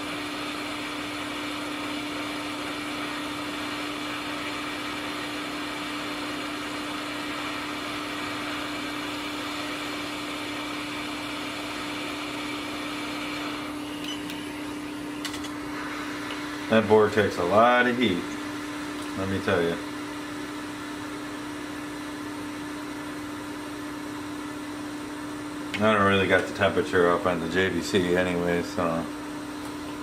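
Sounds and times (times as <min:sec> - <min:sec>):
hot air station blowing: 0:00.0 - 0:30.0.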